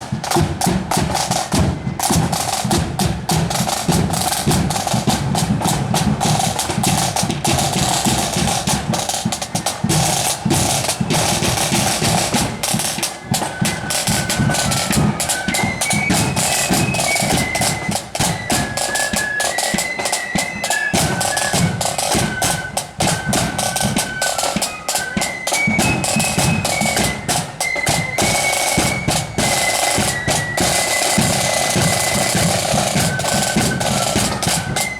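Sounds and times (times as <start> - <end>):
snare and bass drums: 0.0 - 34.9.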